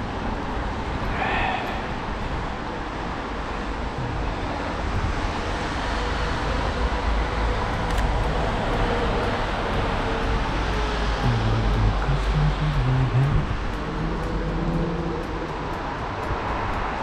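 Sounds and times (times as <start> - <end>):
low urban rumble with hiss: 0.0 - 17.0.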